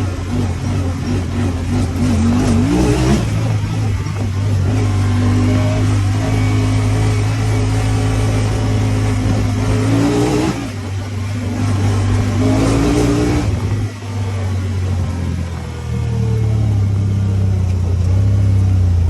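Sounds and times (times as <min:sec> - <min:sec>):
engine revving under load: 0:00.0 - 0:19.0.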